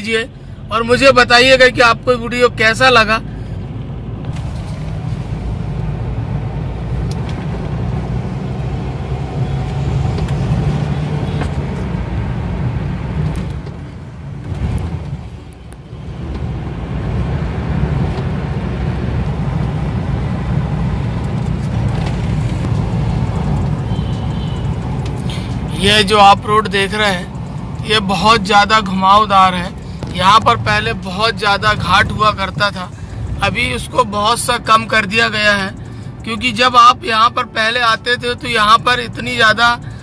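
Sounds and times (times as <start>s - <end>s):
car road and engine noise: 0.0s - 40.0s.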